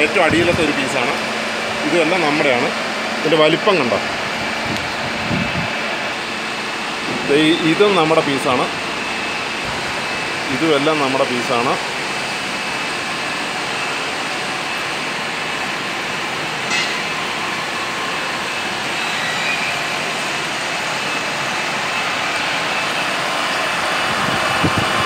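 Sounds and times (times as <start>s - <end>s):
machine tools running: 0.0s - 25.0s.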